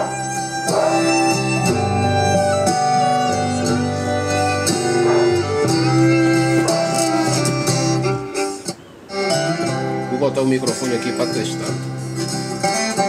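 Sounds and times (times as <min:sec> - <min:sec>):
music from speaker: 0:00.0 - 0:13.0.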